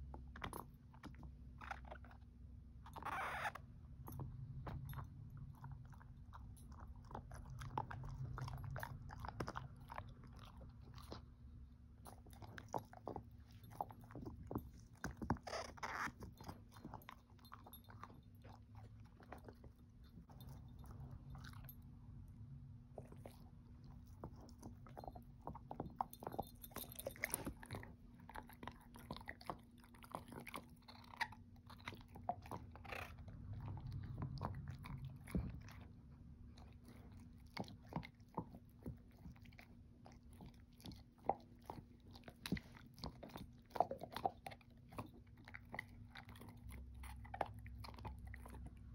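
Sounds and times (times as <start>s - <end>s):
dog chewing a hard treat: 0.0s - 22.0s, 22.9s - 48.9s.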